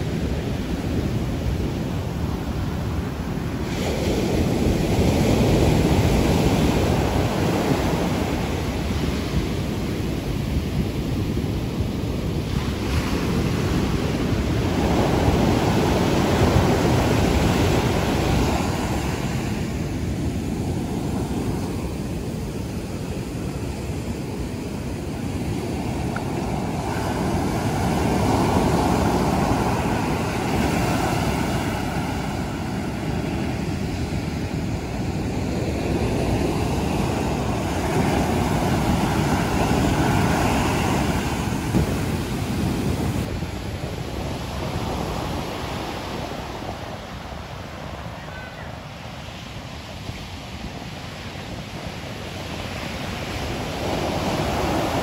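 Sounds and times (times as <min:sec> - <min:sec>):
heavy surf breaking on beach: 0:00.0 - 0:55.0.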